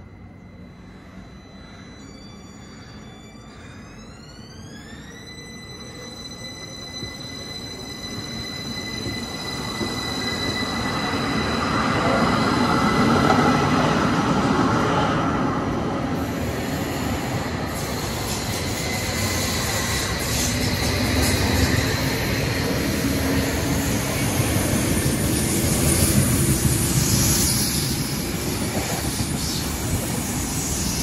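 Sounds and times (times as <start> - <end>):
electric train whine: 0.0 - 31.0
train wheels rolling on rail: 0.5 - 31.0.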